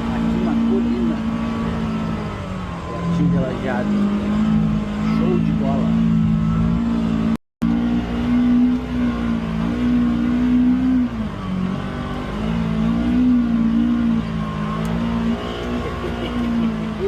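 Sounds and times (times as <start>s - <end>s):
utility vehicle engine revving: 0.0s - 17.0s.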